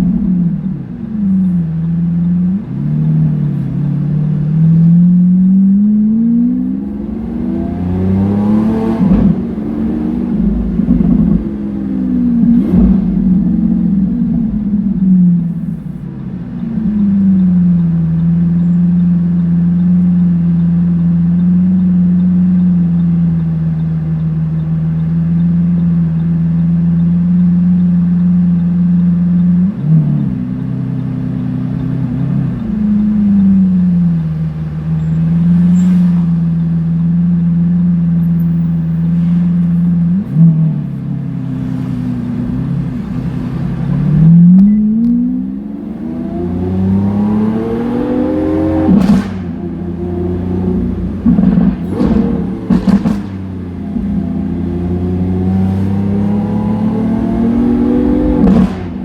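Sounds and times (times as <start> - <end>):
car engine at low revs: 0.0 - 59.0
engine throttle blips: 0.0 - 59.0.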